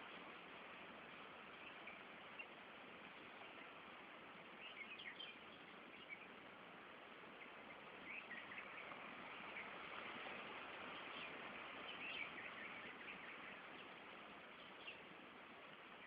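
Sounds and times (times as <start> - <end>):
steady hiss: 0.0 - 16.0
small birds chirping: 1.1 - 16.0.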